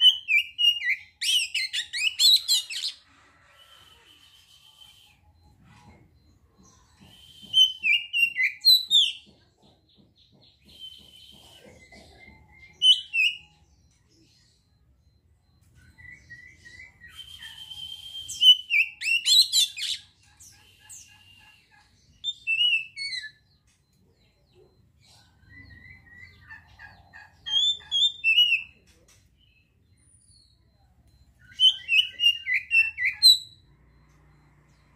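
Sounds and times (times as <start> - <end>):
bird singing whistles and chatter: 0.0 - 9.4, 10.4 - 14.2, 15.6 - 23.6, 27.3 - 34.4.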